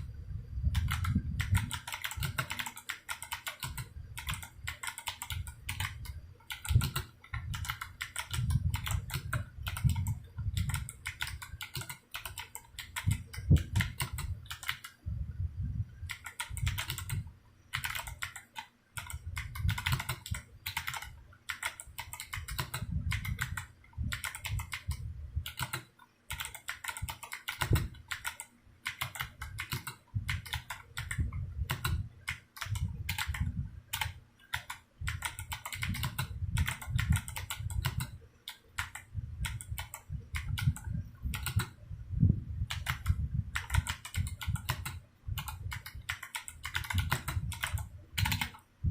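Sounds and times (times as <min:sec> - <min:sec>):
fast typing on mechanical keyboard: 0:00.7 - 0:15.0, 0:16.1 - 0:41.8, 0:42.7 - 0:48.6.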